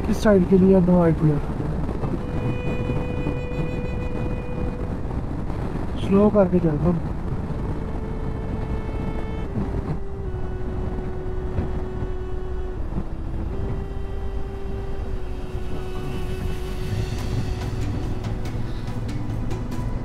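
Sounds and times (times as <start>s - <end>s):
road and wind noise: 0.0s - 20.0s
steady whine: 0.0s - 20.0s.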